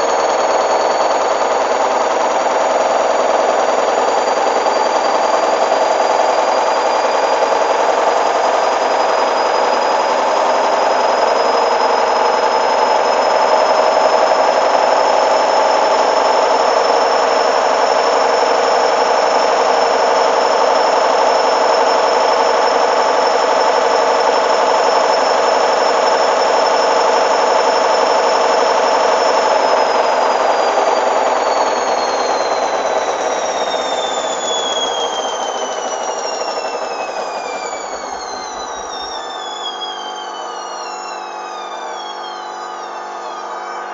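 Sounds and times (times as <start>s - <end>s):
washing machine spinning: 0.0s - 43.9s.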